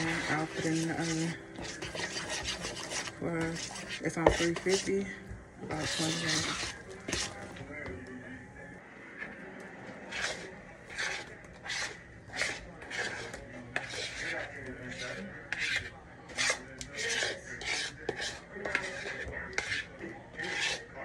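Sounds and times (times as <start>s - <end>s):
spoon scraping mixing bowl: 0.0s - 8.3s, 9.1s - 21.0s.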